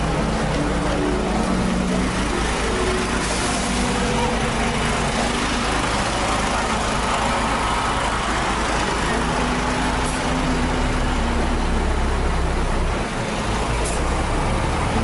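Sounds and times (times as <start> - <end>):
crowd chatter: 0.0 - 15.0
engine droning: 0.0 - 15.0.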